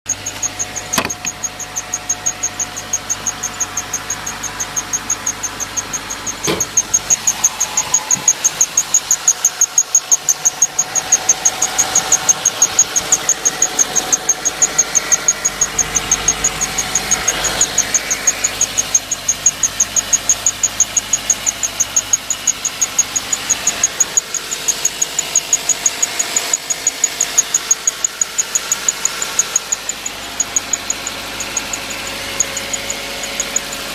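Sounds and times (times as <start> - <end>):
car engine running: 0.0 - 33.9
high-pitched pulsing chirp: 0.1 - 33.9.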